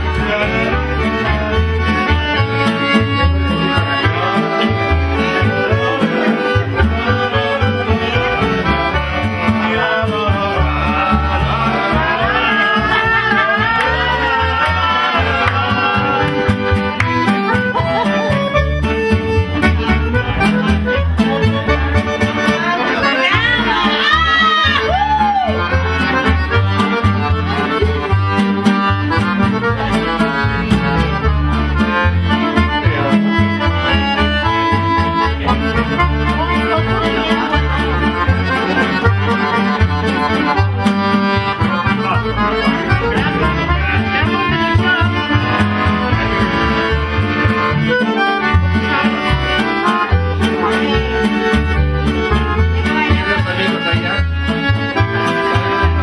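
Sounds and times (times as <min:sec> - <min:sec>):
accordion-led music with bass beat: 0:00.0 - 0:56.0.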